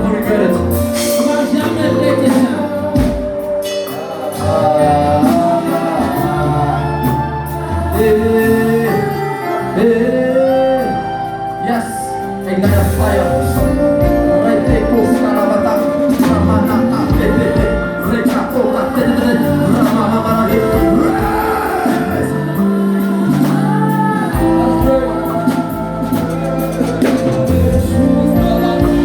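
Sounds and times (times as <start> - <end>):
bass line: 0.0 - 29.0
gospel singing: 0.0 - 29.0.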